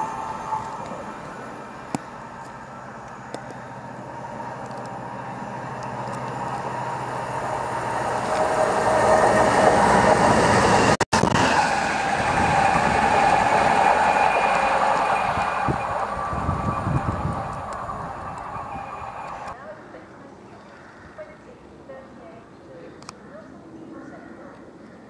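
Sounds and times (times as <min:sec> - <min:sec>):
train passing with whine: 0:00.0 - 0:20.5.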